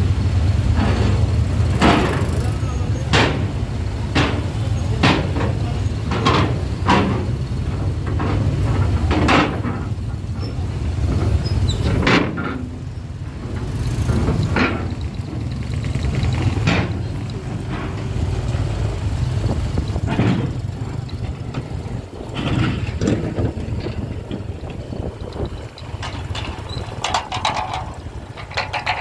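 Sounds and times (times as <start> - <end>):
ferry engine drone: 0.0 - 29.0
metallic knocks and bangs: 0.8 - 29.0.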